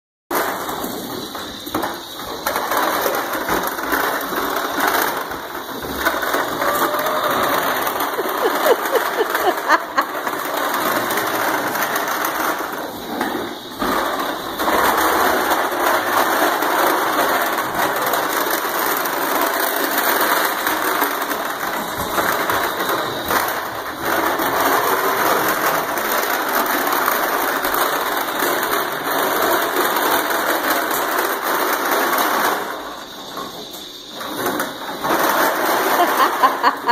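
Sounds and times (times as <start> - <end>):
toy lawnmower rattling on wooden floor: 0.3 - 36.9.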